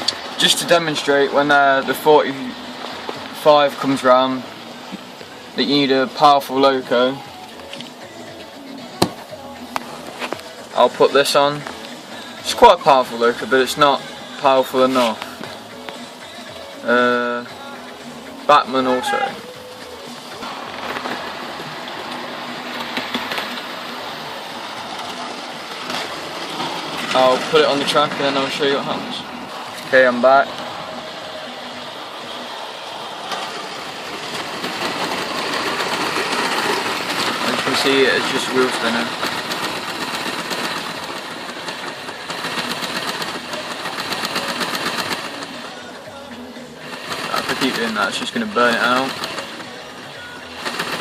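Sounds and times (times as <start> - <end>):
wheels clicking on track: 0.0 - 51.0.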